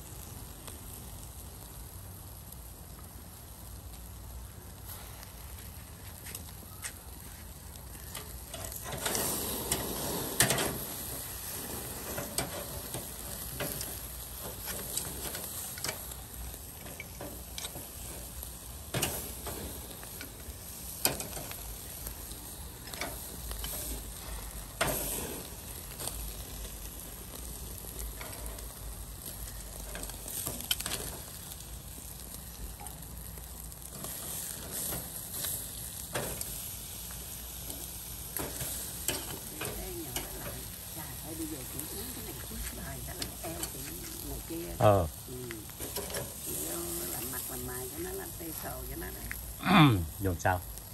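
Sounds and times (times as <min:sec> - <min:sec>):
meat sizzling on grill: 0:00.0 - 0:50.9
sharp pops and crackles: 0:02.5 - 0:49.6.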